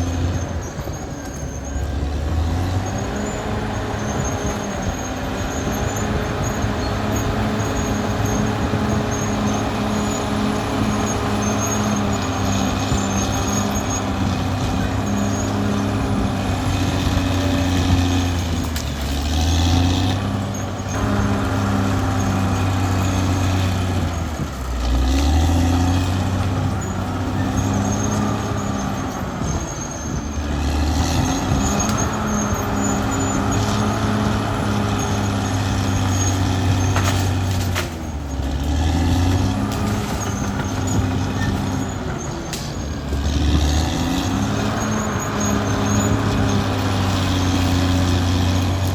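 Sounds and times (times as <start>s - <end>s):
bulldozer diesel engine running hard: 0.0s - 48.9s.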